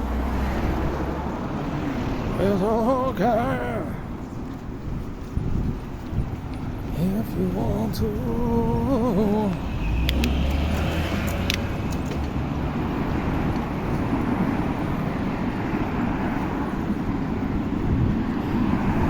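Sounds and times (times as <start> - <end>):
low engine hum: 0.0 - 19.0
road traffic rumble: 0.0 - 19.0.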